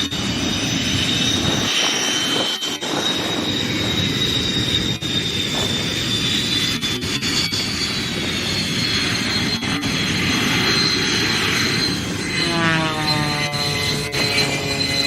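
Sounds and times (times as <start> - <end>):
jet engines whining and roaring: 0.0 - 15.0
jet passing with falling pitch: 0.0 - 15.0.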